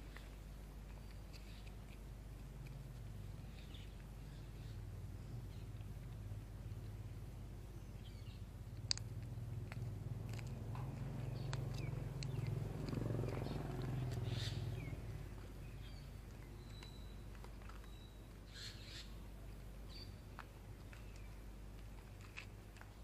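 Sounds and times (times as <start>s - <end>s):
cats licking and chewing food: 0.0s - 18.5s, 19.1s - 23.0s.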